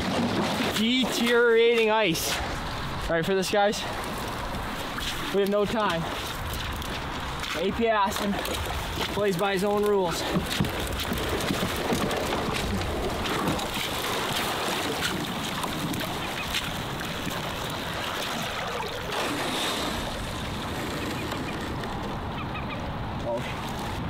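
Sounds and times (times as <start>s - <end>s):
sled sloshing through water: 0.0s - 24.0s.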